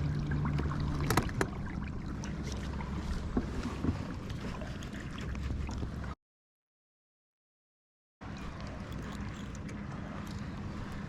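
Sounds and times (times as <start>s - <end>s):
water noise: 0.0s - 6.2s, 8.2s - 11.0s.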